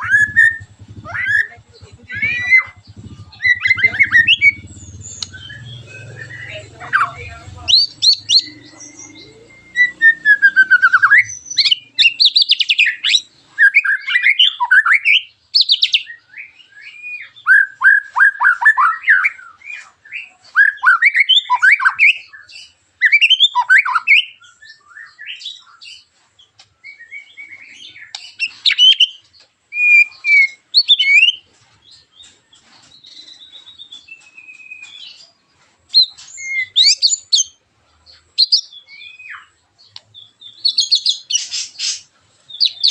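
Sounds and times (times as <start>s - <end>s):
songbird whistling song: 0.0s - 42.9s.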